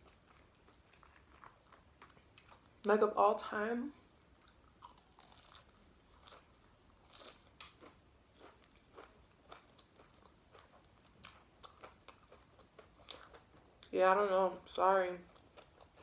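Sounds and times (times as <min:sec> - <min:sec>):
chewing food: 0:00.0 - 0:02.8, 0:04.2 - 0:14.0, 0:15.2 - 0:16.0.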